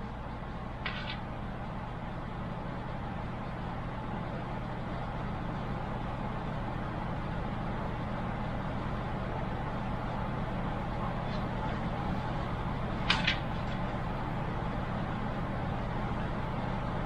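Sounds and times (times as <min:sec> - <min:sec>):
faint steady whine: 0:00.0 - 0:17.0
low mechanical hum: 0:00.0 - 0:17.0.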